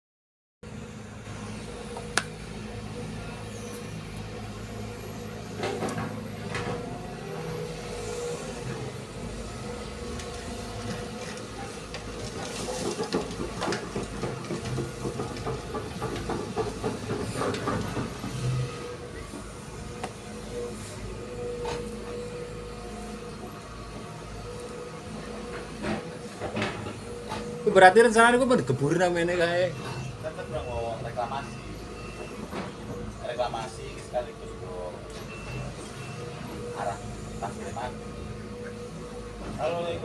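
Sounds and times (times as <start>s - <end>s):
heavy machinery diesel engines: 0.7s - 40.0s.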